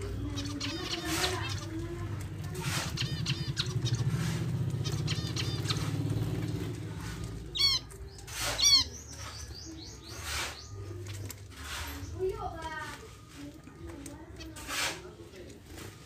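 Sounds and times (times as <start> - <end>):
small birds chirping: 0.0 - 16.0
wings fluttering: 0.0 - 16.0.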